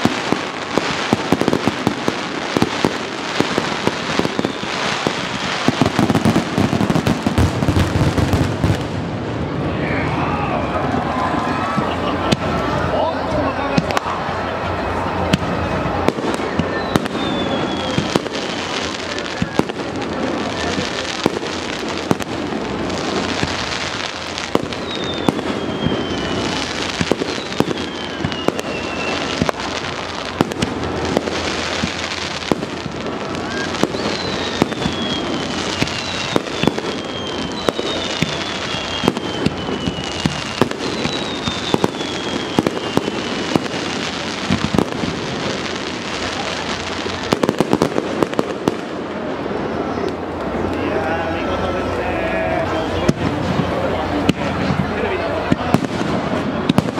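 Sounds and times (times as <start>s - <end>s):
falling firework whistles: 0.0s - 8.8s, 15.3s - 50.6s, 52.7s - 54.6s
firework bursts and crackling: 0.0s - 56.9s.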